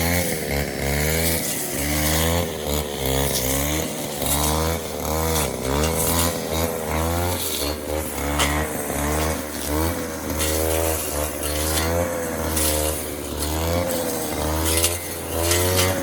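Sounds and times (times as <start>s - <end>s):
grass cutter engine revving: 0.0s - 16.0s.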